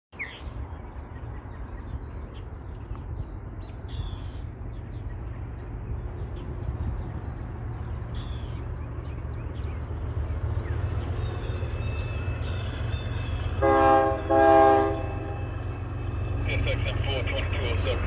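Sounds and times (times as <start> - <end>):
steady low rumble: 0.4 - 18.0.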